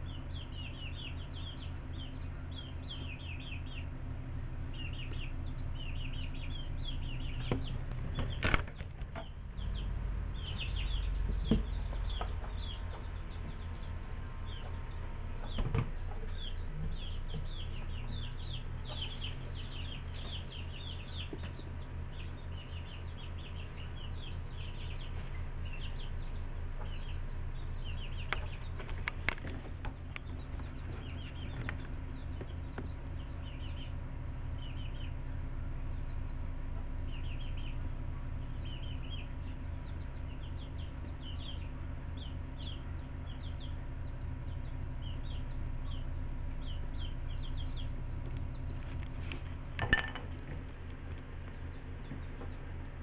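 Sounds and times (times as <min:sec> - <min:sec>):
chicks peeping: 0:00.0 - 0:53.0
low steady hum: 0:00.0 - 0:53.0.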